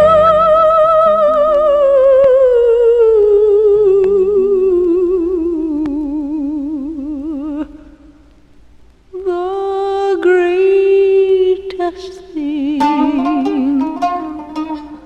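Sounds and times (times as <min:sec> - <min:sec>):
woman singing wordless notes: 0:00.0 - 0:08.0, 0:09.1 - 0:15.0.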